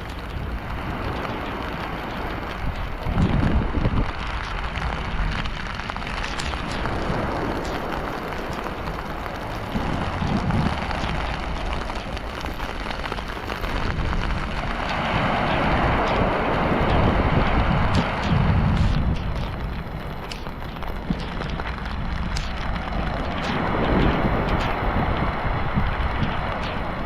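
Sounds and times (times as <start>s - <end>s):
heavy rain pouring: 0.0s - 27.0s
wind gusts buffeting microphone: 0.0s - 27.0s.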